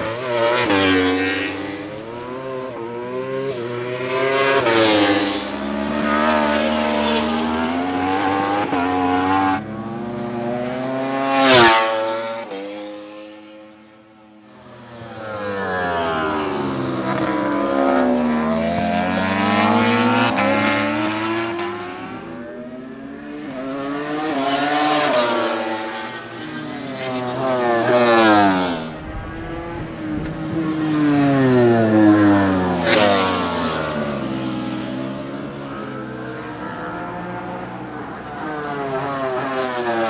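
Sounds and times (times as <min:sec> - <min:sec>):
motorcycle passing by: 0:00.0 - 0:40.0
racing motorcycles accelerating: 0:00.0 - 0:40.0.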